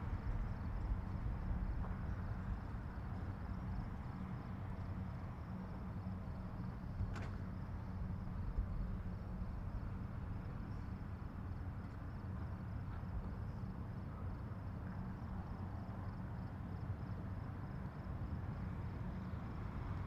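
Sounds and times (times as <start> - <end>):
low drone of marine diesel engines: 0.0 - 20.0.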